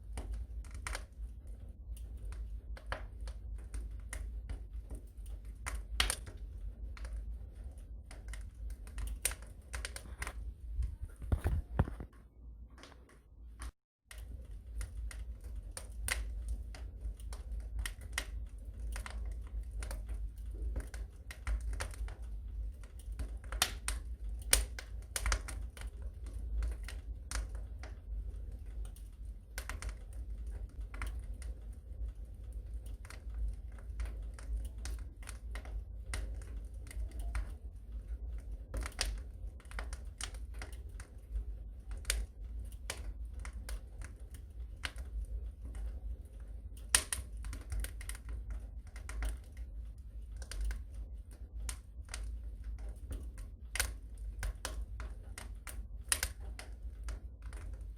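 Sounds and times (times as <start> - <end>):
low fire rumble: 0.0 - 57.9
wood fire crackling: 0.0 - 57.9.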